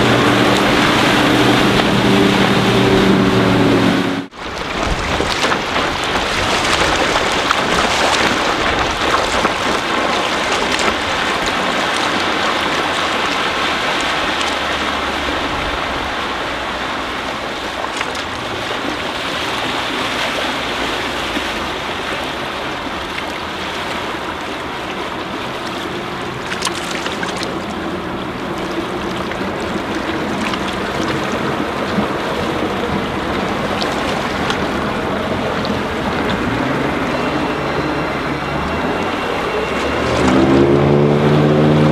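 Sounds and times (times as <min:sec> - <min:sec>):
boat engine running: 0:00.0 - 0:41.9
rushing water: 0:00.0 - 0:41.9.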